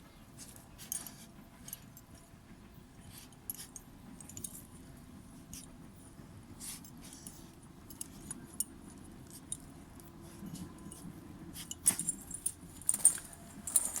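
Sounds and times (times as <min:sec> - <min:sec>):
pet digging and scratching: 0:00.1 - 0:14.0.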